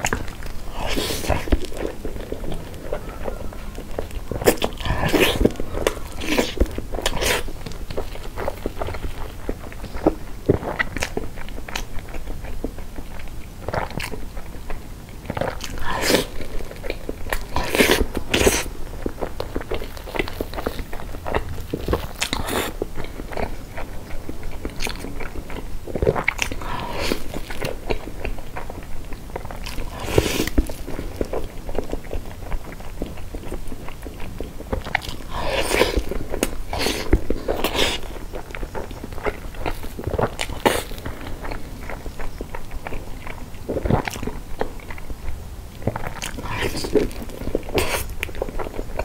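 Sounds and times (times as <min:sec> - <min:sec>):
chewing sponge cake: 0:00.0 - 0:49.0.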